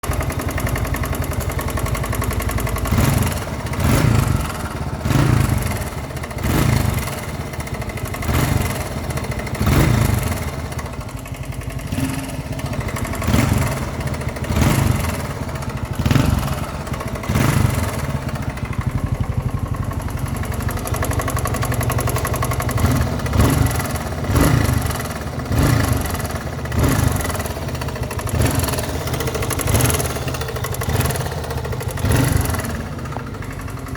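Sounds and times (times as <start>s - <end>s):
engine knocking: 0.0s - 33.9s
motorcycle engine revving: 0.0s - 33.9s.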